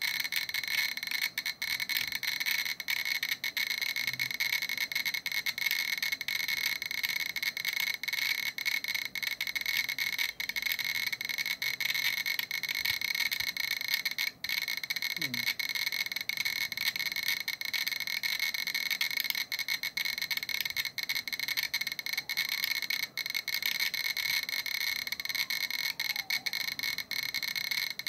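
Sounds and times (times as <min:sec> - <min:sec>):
geiger counter clicking fast: 0:00.0 - 0:28.0.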